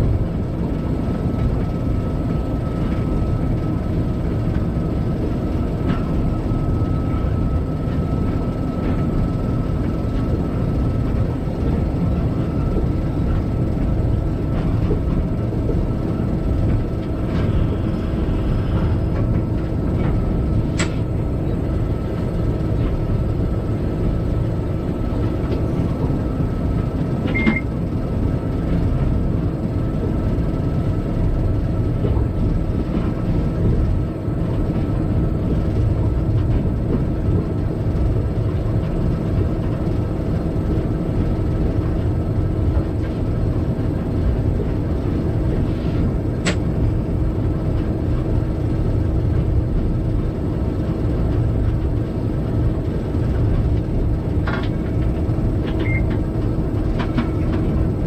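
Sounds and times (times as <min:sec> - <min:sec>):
locomotive running rumble: 0:00.0 - 0:58.0.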